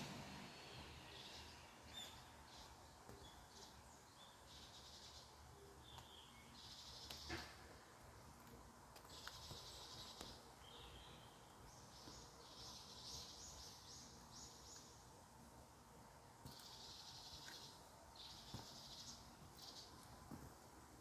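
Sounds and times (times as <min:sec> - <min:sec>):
faint forest ambience: 0:00.0 - 0:21.0.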